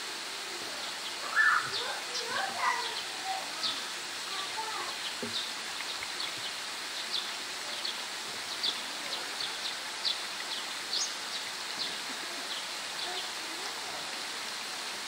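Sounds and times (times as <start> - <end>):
steady background hiss: 0.0 - 15.0
small birds chirping: 0.7 - 14.2.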